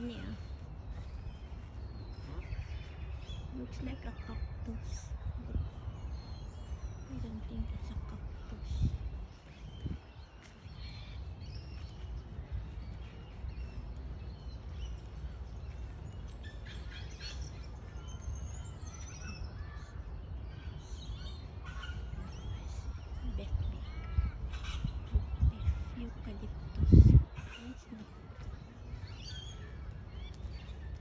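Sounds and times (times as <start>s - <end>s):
steady low rumble: 0.0s - 19.0s, 20.4s - 31.0s
birds chirping and calling: 0.0s - 31.0s.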